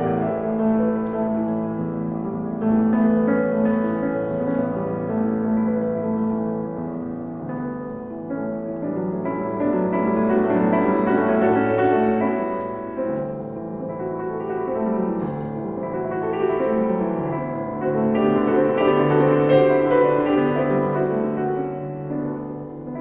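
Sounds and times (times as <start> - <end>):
slow solo piano piece: 0.0 - 23.0.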